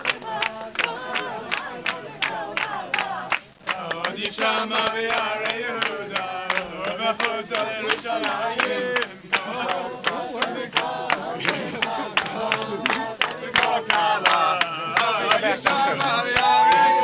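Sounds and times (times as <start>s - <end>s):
crowd singing: 0.0s - 17.0s
rhythmic hand-clapping: 0.0s - 17.0s.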